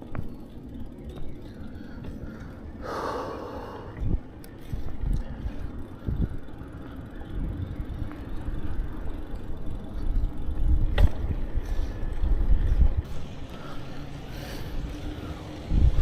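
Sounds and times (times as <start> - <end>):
bicycle rolling: 0.0 - 16.0
wind rumbling on microphone: 0.0 - 16.0.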